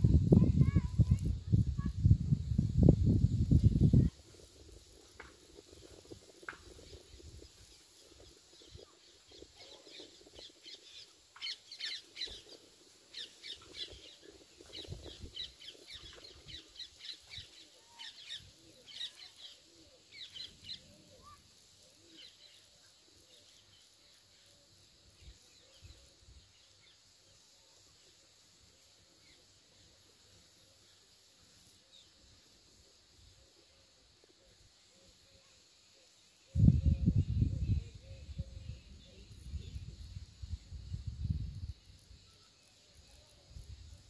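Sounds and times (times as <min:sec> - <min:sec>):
faint bird chirping: 0:00.1 - 0:44.0.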